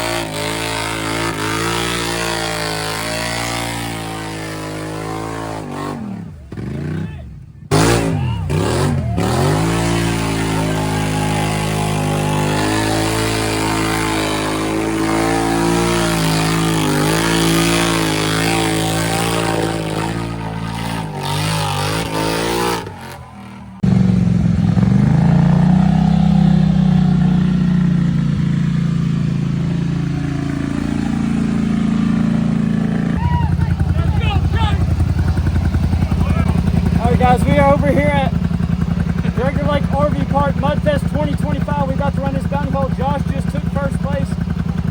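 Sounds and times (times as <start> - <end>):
atv engine revving hard: 0.0 - 44.9
engine running steadily: 0.0 - 44.9.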